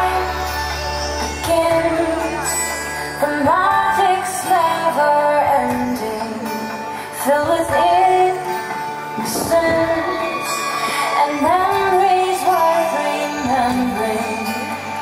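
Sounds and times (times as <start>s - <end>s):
instrumental backing music: 0.0s - 15.0s
woman singing: 0.0s - 15.0s.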